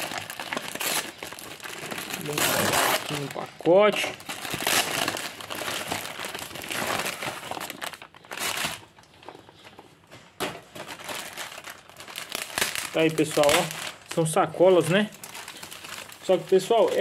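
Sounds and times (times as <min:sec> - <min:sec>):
plastic and paper crinkling: 0:00.0 - 0:17.0.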